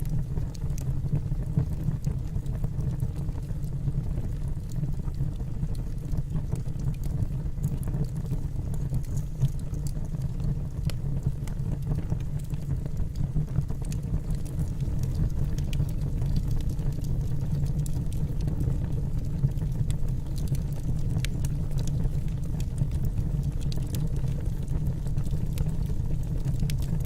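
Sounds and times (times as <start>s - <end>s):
fire crackling and popping: 0.0s - 27.0s
fire rumbling: 0.0s - 27.0s.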